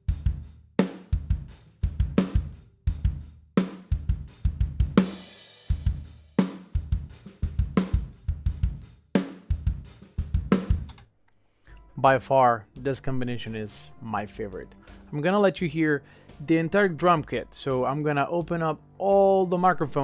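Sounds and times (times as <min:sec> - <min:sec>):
drum kit groove: 0:00.0 - 0:11.0, 0:12.8 - 0:20.0.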